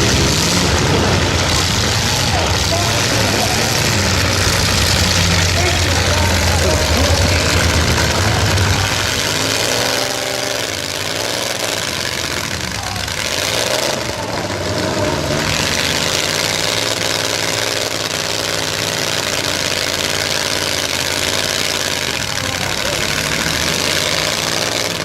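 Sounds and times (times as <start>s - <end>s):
noisy din: 0.0s - 25.0s
truck engines revving: 0.0s - 25.0s.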